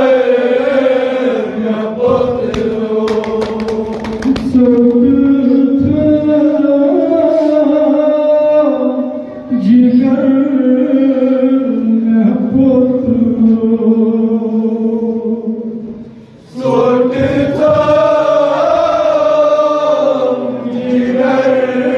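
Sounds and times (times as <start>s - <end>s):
men chanting over a microphone: 0.0s - 15.9s, 16.5s - 21.9s
group of male voices singing: 0.0s - 21.9s.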